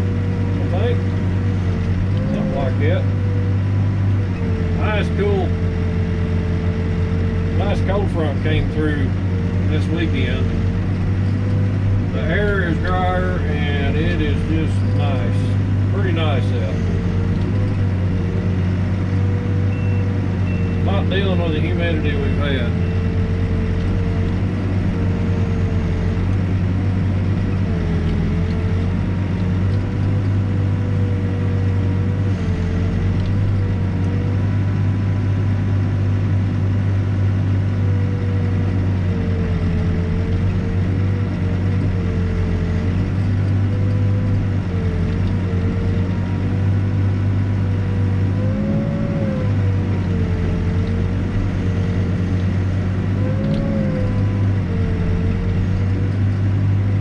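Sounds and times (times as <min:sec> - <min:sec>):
backhoe diesel engine working: 0:00.0 - 0:57.0.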